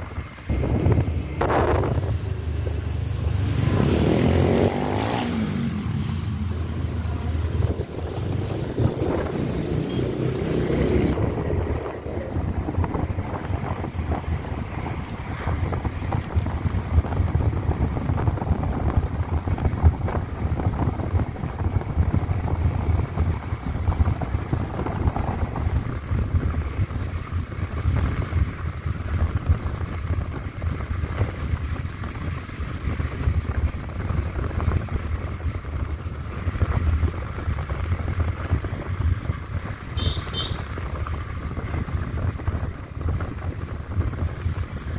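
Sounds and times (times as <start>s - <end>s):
motorbike engine: 0.0s - 44.9s
road noise: 0.0s - 44.9s
wind buffeting microphone: 0.0s - 44.9s.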